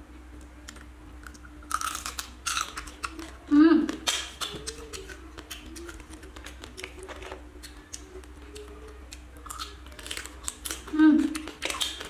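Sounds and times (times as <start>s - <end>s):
steady low hum: 0.0s - 12.0s
crab shell crunching while chewing: 0.6s - 12.0s.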